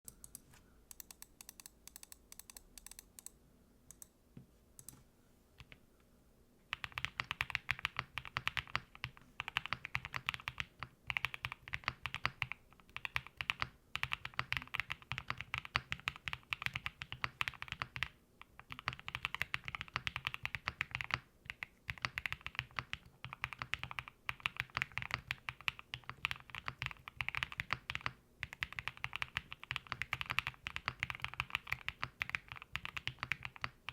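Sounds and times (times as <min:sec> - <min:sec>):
typing on mechanical keyboard: 0:00.1 - 0:03.3, 0:06.7 - 0:33.9.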